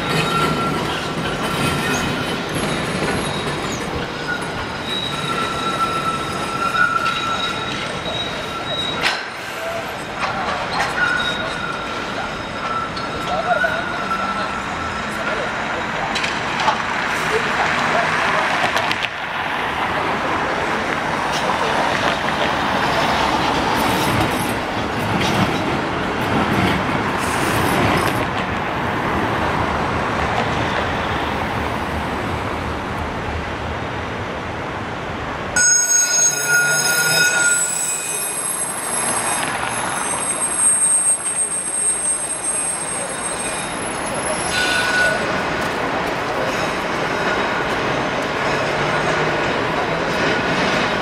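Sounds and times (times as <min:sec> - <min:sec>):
tram wheels squealing: 0:00.0 - 0:19.0, 0:20.5 - 0:28.3, 0:35.6 - 0:51.0
street traffic noise: 0:00.0 - 0:51.0
tram wheels rumbling on rails: 0:00.0 - 0:51.0.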